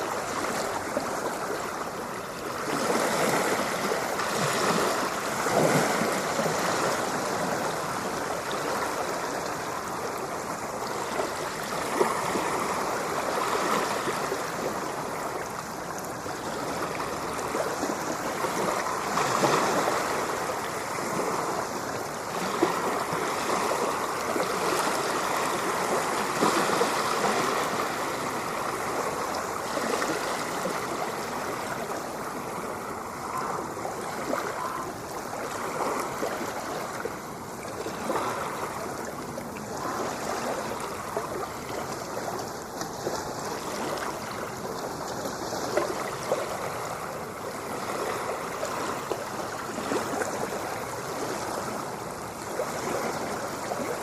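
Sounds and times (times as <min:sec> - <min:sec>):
ocean surf washing: 0:00.0 - 0:54.0.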